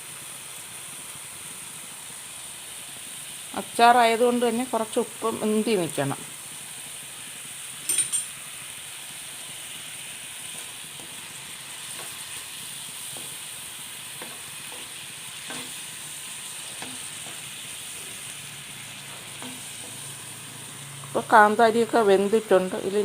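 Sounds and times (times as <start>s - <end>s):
pickle sizzling in pan: 0.0s - 23.0s.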